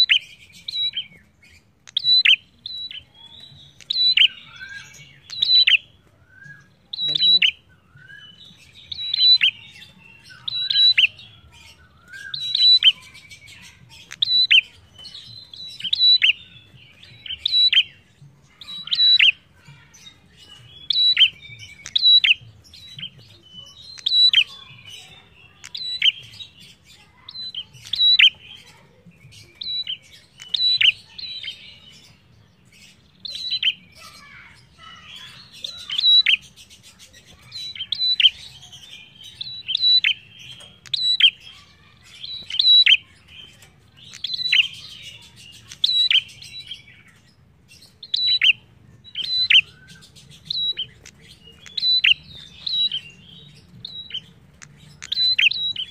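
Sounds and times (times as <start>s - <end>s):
soft bird twittering: 0.0s - 55.9s
songbird chirping: 0.0s - 55.9s.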